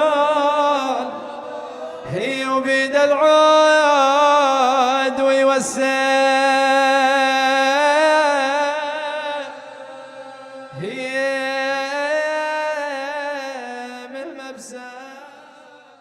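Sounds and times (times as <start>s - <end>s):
man chanting a lament: 0.0s - 16.0s.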